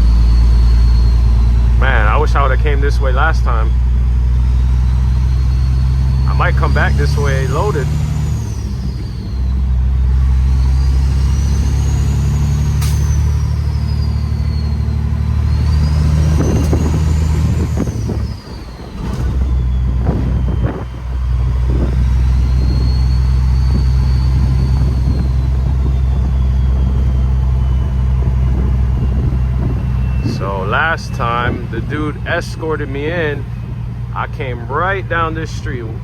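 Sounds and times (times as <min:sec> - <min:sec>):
turbo whistle: 0:00.0 - 0:33.9
diesel truck engine pulling: 0:00.0 - 0:36.0.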